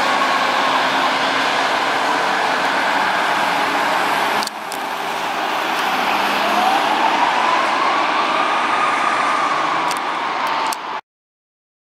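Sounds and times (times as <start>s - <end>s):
tyres hissing on wet road: 0.0s - 11.0s.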